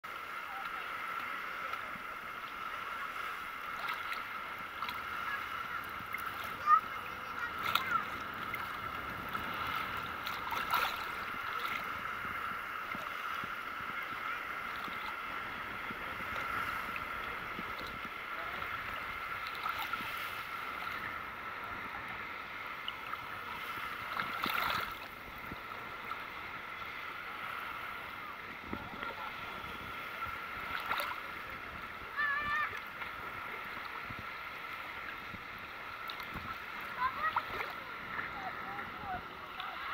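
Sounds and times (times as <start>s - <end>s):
muffled water lapping and sloshing: 0.0s - 39.9s
water splashes: 0.0s - 39.9s.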